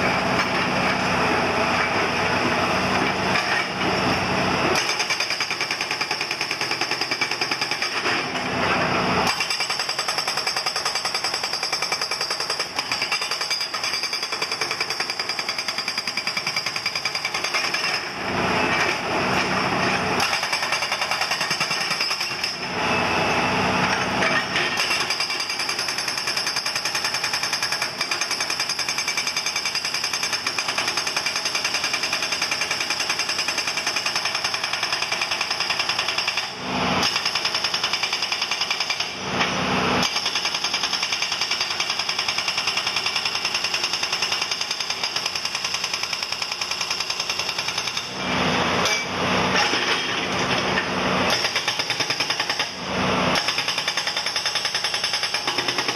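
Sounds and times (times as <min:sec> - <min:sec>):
hydraulic rock breaker hammering: 0:00.0 - 0:55.9.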